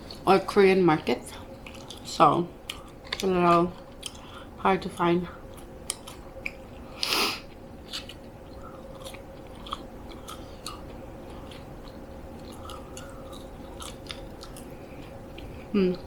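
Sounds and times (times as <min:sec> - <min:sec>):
person chewing food: 0:01.4 - 0:04.6, 0:05.4 - 0:16.0.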